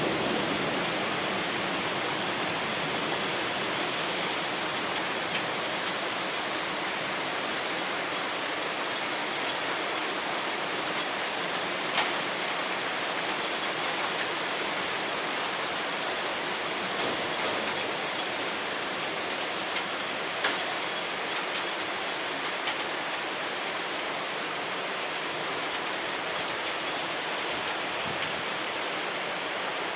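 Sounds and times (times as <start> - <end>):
raindrops tapping near microphone: 0.0 - 6.8, 8.9 - 15.6, 16.6 - 29.1
steady rain: 0.0 - 29.9.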